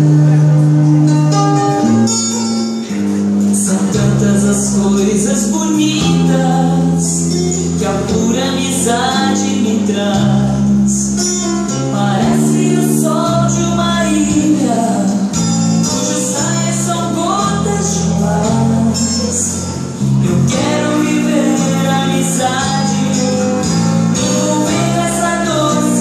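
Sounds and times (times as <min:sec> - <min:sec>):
instrumental chords: 0:00.0 - 0:26.0
person singing: 0:01.8 - 0:26.0.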